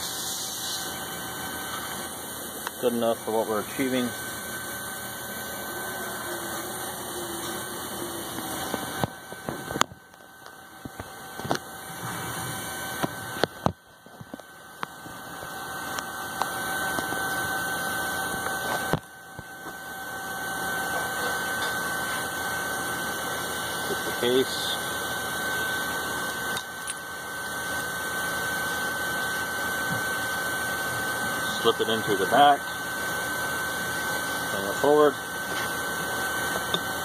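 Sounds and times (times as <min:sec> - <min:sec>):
machine shop hum with whine: 0:00.0 - 0:37.0.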